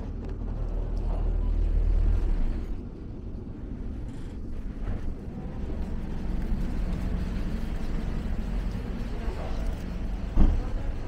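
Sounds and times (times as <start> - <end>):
street ambience rumble: 0.0 - 11.0.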